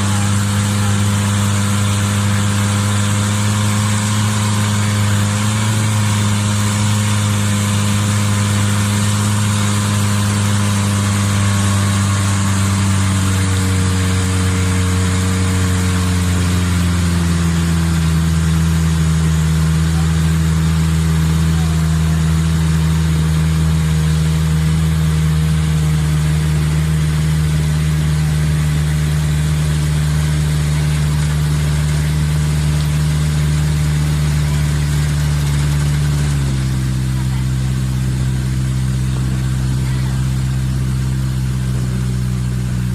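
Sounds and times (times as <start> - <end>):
boat engine running: 0.0 - 42.9.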